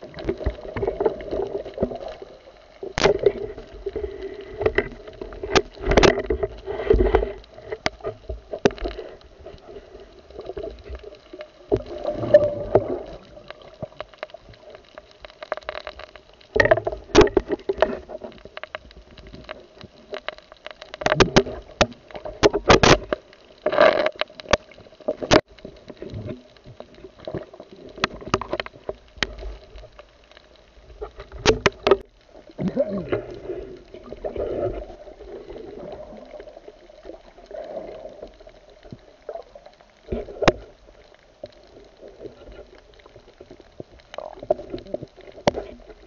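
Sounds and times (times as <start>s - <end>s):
underwater clicks and knocks: 0.0s - 30.1s, 30.9s - 46.0s
water rushing and gurgling: 0.0s - 46.0s.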